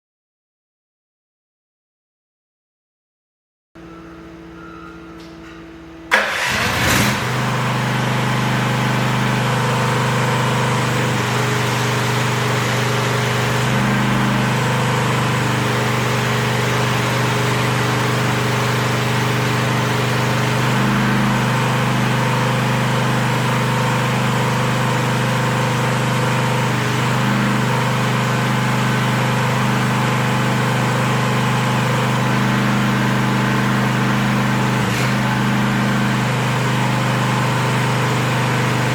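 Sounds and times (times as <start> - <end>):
excavator engine running: 3.8 - 38.9.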